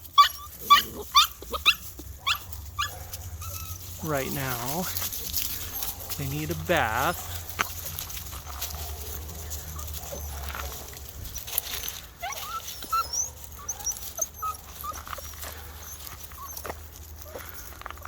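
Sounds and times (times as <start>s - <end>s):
puppies whining: 0.0s - 18.0s.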